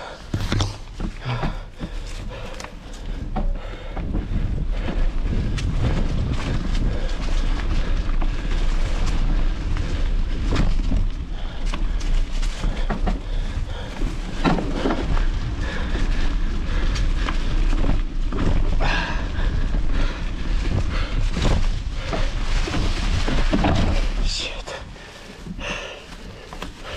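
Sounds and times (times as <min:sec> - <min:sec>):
wind buffeting microphone: 0:01.5 - 0:26.9.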